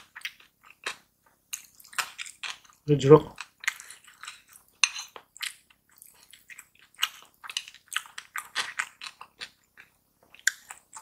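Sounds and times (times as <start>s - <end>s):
chewing with mouth clicks: 0.0s - 11.0s.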